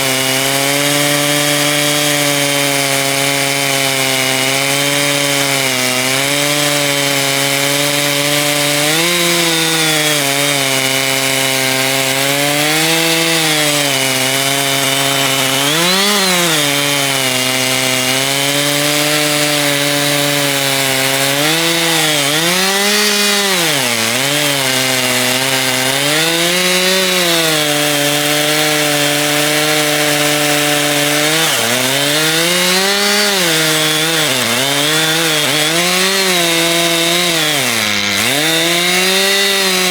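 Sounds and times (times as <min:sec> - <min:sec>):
chainsaw ripping a log: 0:00.0 - 0:39.9.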